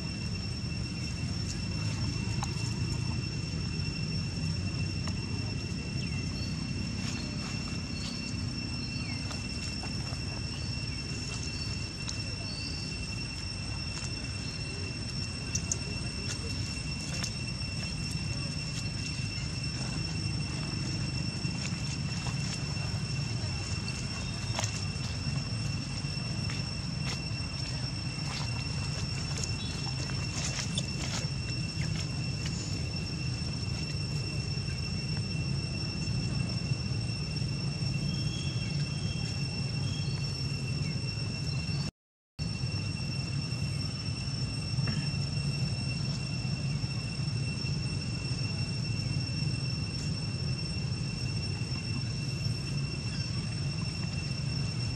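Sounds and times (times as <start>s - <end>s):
high insect drone: 0.0s - 54.9s
low outdoor rumble: 0.0s - 54.9s.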